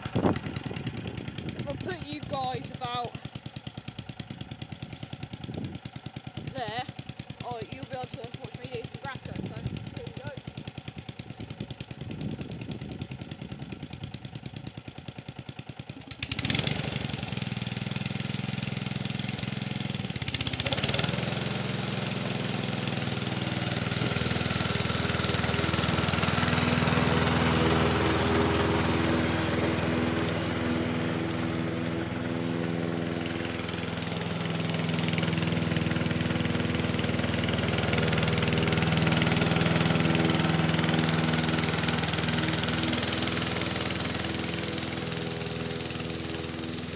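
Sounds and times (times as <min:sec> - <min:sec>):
lawn mower engine revving: 0:00.0 - 0:46.9.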